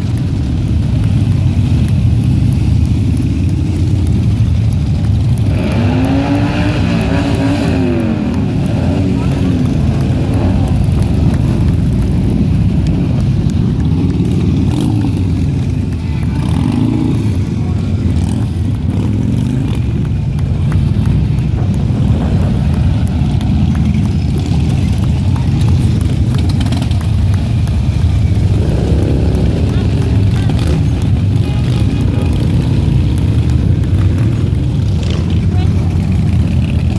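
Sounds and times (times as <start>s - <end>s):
motorcycle engines rumbling: 0.0s - 36.9s.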